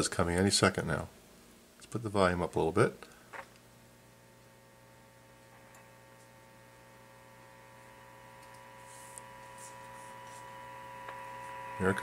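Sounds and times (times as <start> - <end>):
faint hum: 0.0 - 12.0
steady buzzing tone from radio: 2.1 - 12.0.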